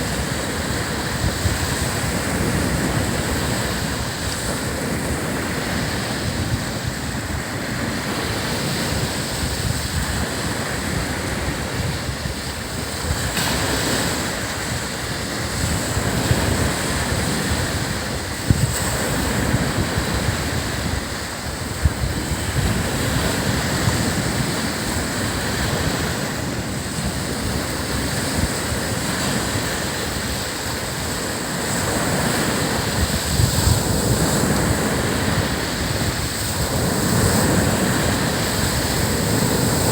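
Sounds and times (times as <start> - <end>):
ocean surf breaking on sand: 0.0 - 39.9.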